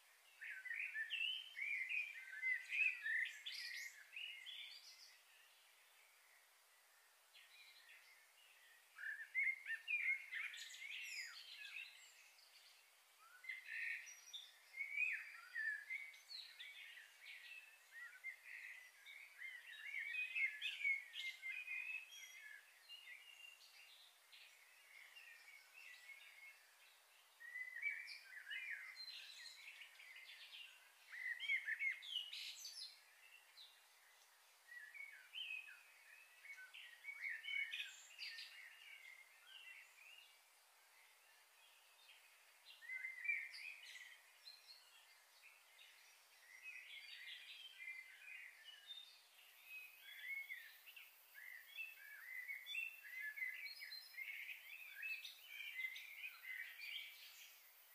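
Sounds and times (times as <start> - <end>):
birds chirping and singing: 0.3 - 5.7, 7.3 - 57.9.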